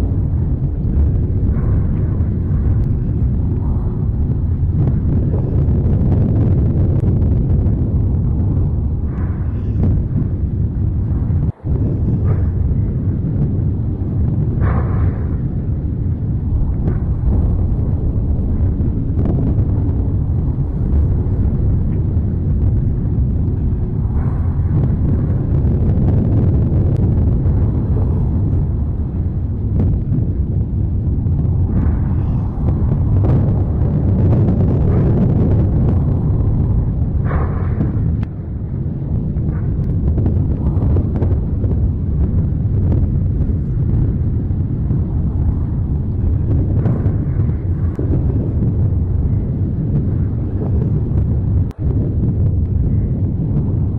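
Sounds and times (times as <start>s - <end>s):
deep volcanic rumble: 0.0s - 53.9s
faint crackles: 0.0s - 53.9s.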